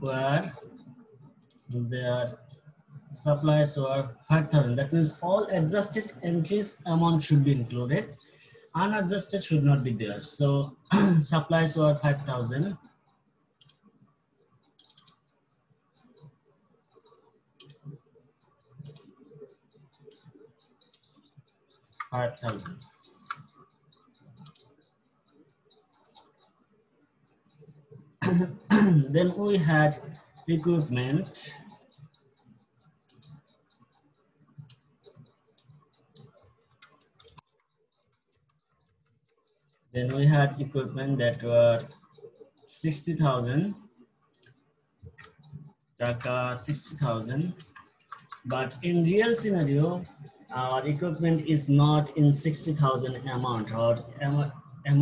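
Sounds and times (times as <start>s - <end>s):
keyboard and mouse clicking: 0.0s - 14.0s, 14.6s - 55.0s.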